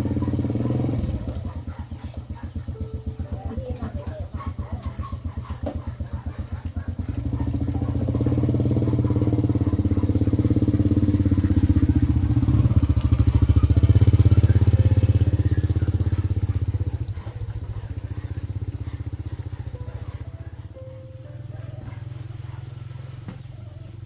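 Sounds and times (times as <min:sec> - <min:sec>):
motorbike engine running: 0:00.0 - 0:24.0.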